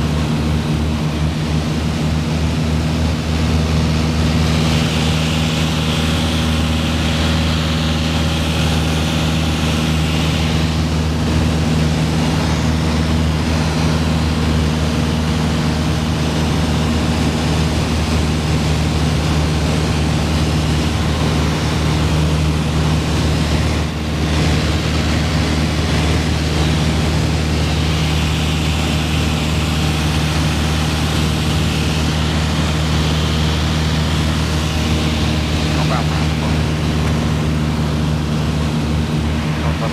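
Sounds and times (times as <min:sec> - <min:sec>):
propeller aircraft engine in cabin: 0:00.0 - 0:39.9.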